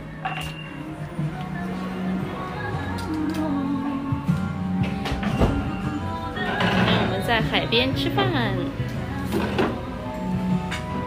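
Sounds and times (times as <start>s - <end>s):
music with held notes: 0.0s - 11.0s.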